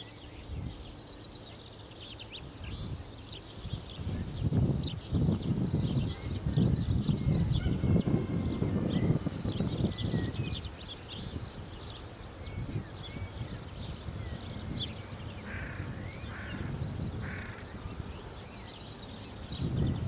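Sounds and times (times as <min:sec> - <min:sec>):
harsh bird calls: 0:00.0 - 0:20.0
songbirds chirping and singing: 0:00.0 - 0:20.0.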